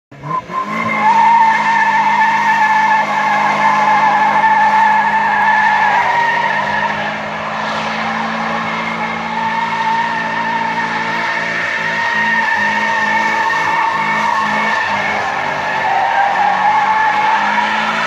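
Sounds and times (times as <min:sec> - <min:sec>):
car engine at high revs: 0:00.1 - 0:18.0
tyres squealing: 0:00.7 - 0:18.0.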